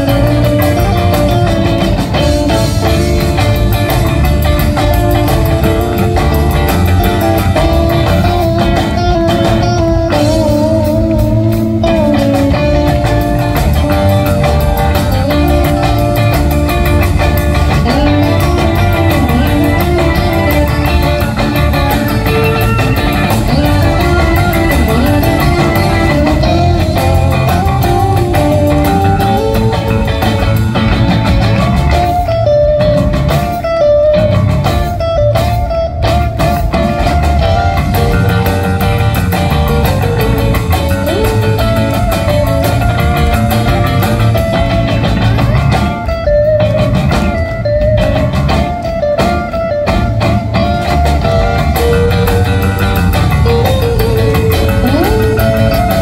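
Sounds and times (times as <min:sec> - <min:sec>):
drum kit: 0:00.0 - 0:56.0
electric bass: 0:00.0 - 0:56.0
electric guitars: 0:00.0 - 0:56.0.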